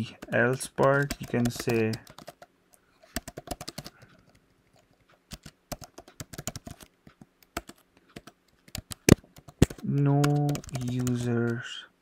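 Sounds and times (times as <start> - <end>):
typing on computer keyboard: 0.0 - 2.5, 3.1 - 11.6.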